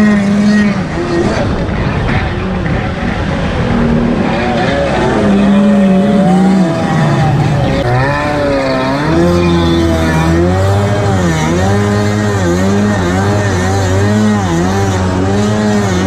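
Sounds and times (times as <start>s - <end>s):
jet ski engine revving: 0.0s - 16.0s.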